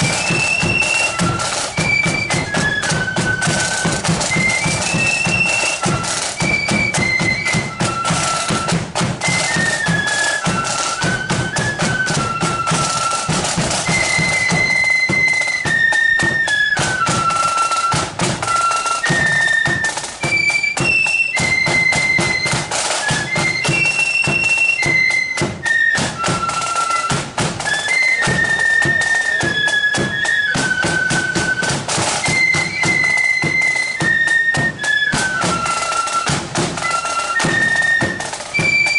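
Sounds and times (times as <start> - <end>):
flutes playing in unison: 0.0 - 38.9
snare and bass drums: 0.0 - 38.9.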